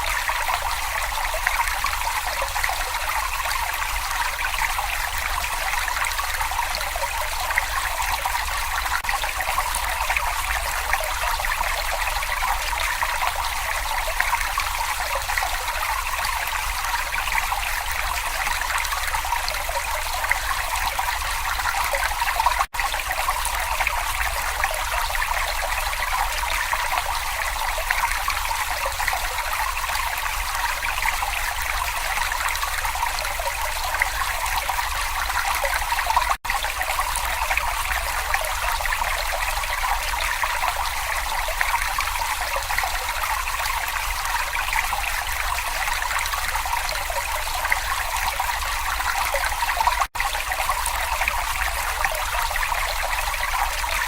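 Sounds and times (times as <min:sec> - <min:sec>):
babbling brook water: 0:00.0 - 0:54.0.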